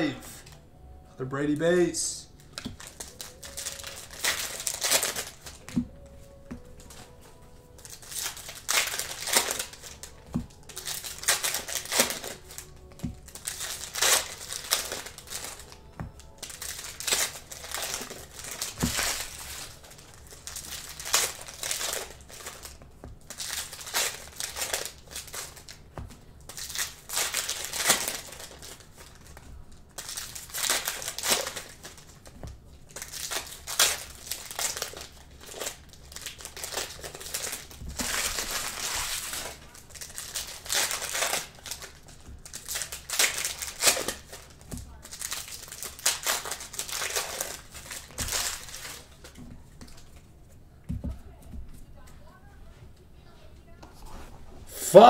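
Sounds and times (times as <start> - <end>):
plastic wrappers crinkling: 2.3 - 50.3.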